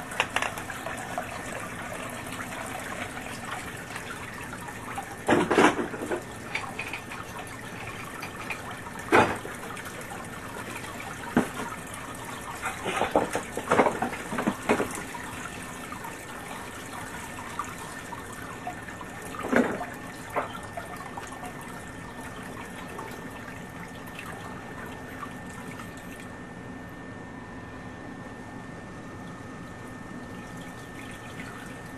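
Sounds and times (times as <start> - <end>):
water trickling and splashing: 0.0 - 26.3, 29.2 - 31.9
sump pump humming: 0.0 - 31.9.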